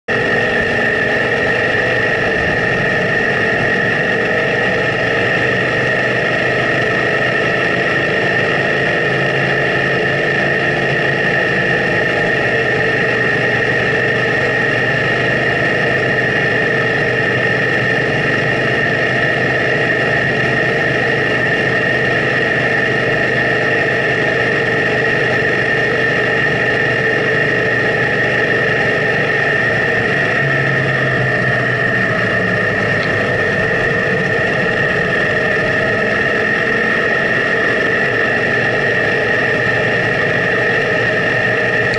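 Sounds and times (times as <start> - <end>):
steady high whine: 0.0 - 41.9
scooter engine running: 0.1 - 41.9.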